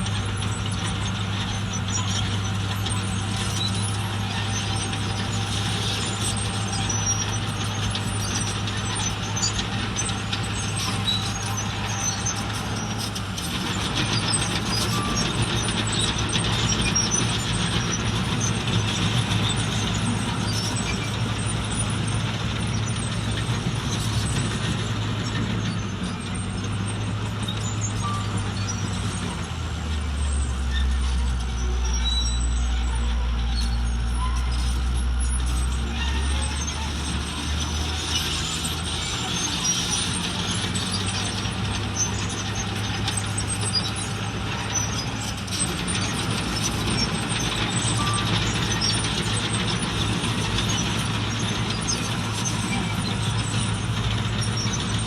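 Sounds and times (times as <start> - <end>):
heavy machinery engine hum: 0.0 - 55.0.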